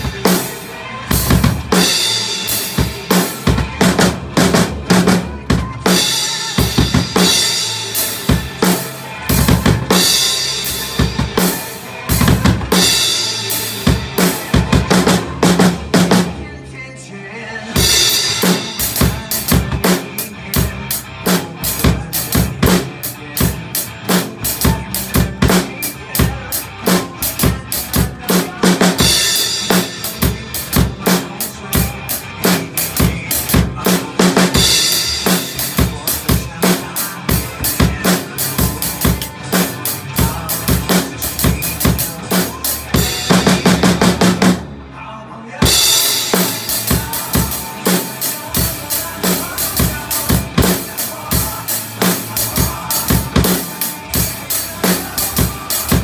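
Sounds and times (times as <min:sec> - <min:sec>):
drum kit played fast: 0:00.0 - 0:16.6, 0:17.6 - 0:44.9, 0:45.6 - 0:56.0.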